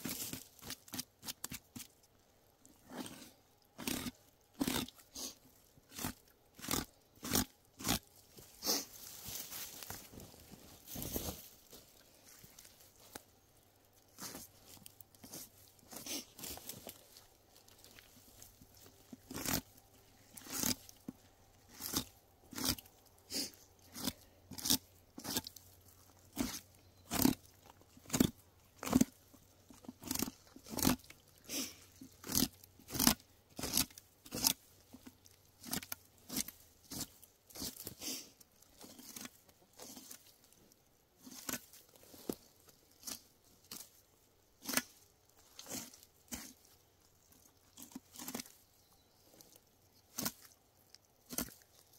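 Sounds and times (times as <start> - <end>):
knife cutting and tearing hide: 0.0 - 2.0, 2.7 - 10.0, 14.0 - 40.5, 41.2 - 48.7, 49.3 - 51.9.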